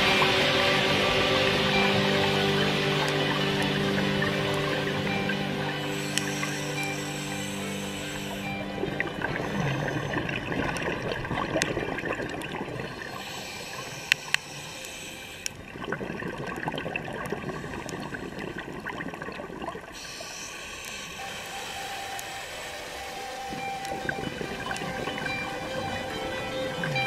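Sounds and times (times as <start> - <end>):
water gurgling and rushing: 0.0 - 27.0.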